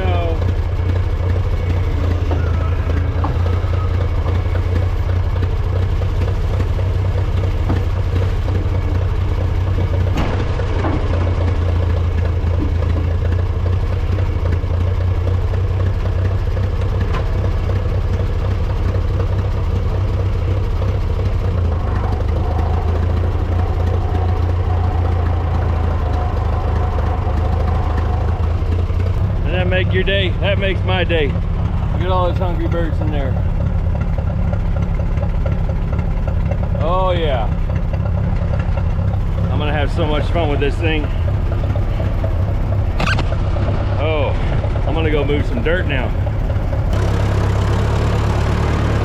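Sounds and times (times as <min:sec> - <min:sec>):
backhoe engine droning: 0:00.0 - 0:49.0.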